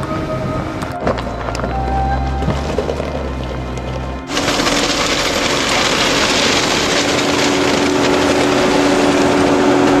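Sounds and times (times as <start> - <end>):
vehicle engine low hum: 0.0 - 10.0.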